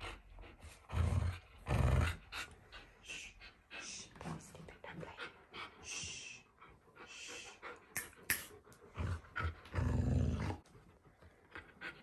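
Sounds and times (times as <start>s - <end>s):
dogs panting and sniffing: 0.0s - 9.8s, 10.6s - 12.0s.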